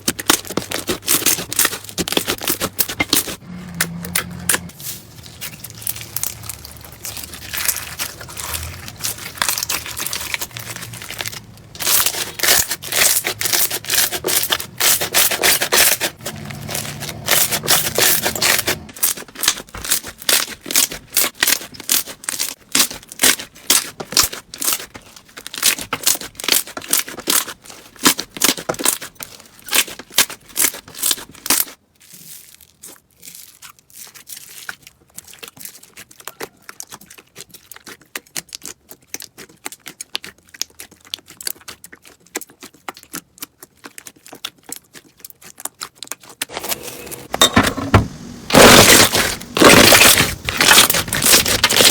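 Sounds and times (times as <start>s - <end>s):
slime crackling and popping: 4.8s - 46.5s.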